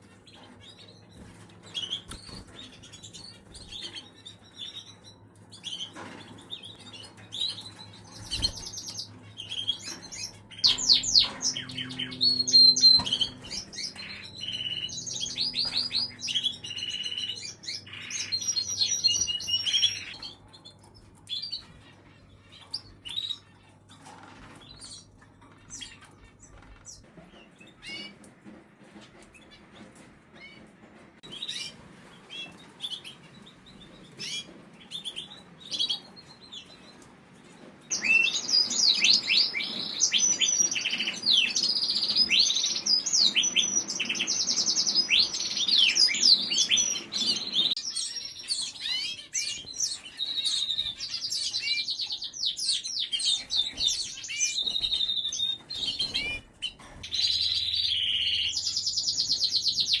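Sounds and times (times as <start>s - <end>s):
canaries chirping: 0.0s - 60.0s.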